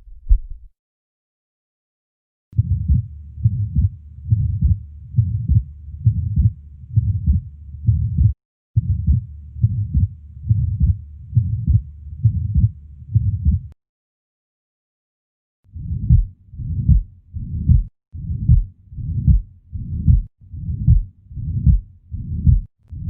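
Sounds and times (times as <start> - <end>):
heartbeat through stethoscope: 0.0 - 0.7, 2.6 - 13.8, 15.7 - 23.0.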